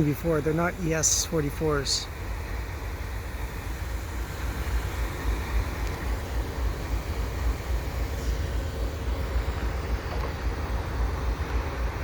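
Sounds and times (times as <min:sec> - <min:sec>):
diesel locomotives idling: 0:00.0 - 0:12.0.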